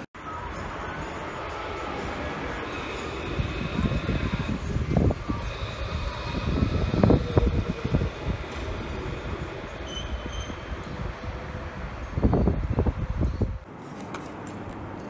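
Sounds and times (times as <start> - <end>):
electric train rumbling: 0.0 - 15.0
wheels clanking on rails: 0.3 - 12.7.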